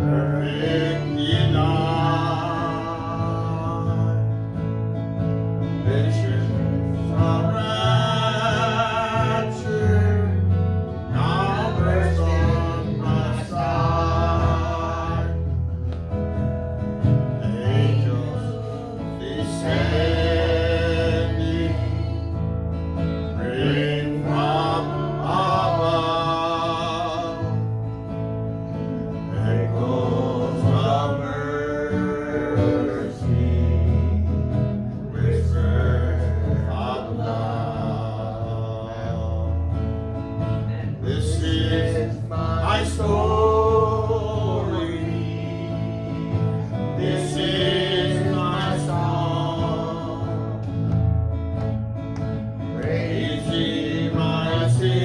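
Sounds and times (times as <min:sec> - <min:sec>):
congregation singing a hymn: 0:00.0 - 0:55.0
guitar: 0:00.0 - 0:55.0.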